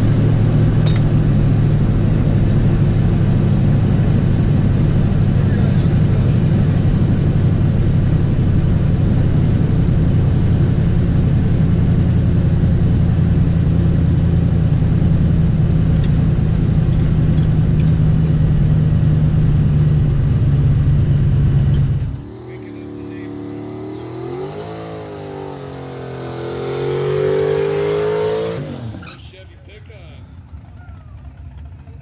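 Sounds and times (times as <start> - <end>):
engine running at low revs: 0.0 - 32.0.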